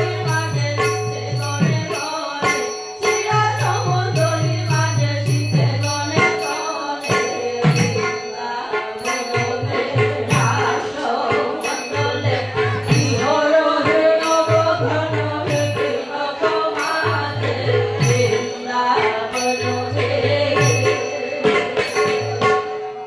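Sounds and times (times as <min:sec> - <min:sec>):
metallic ringing: 0:00.0 - 0:23.0.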